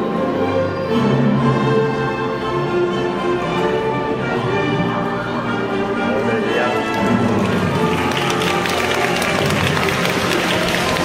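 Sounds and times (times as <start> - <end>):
orchestral music with held strings: 0.0 - 11.0.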